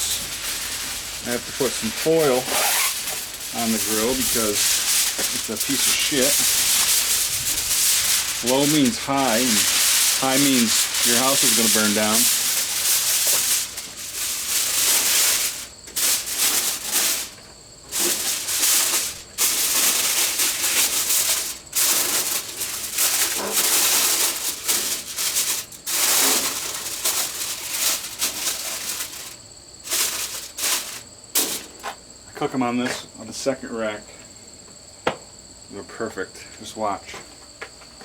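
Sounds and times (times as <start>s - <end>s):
aluminium foil crinkling: 0.0s - 32.0s.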